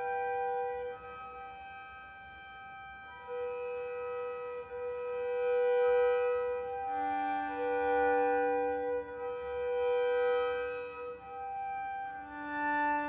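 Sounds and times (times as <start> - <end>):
violin long bowed notes: 0.0 - 13.0.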